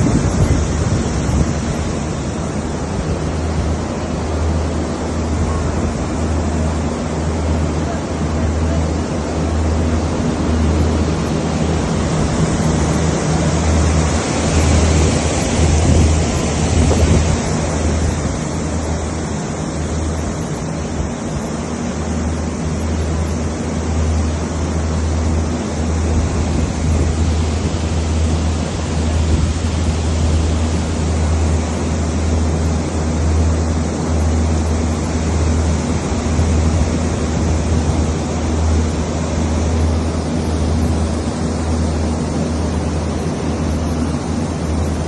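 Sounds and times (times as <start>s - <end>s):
low throbbing fan hum: 0.0s - 45.0s
water falling through cooling tower: 0.0s - 45.0s.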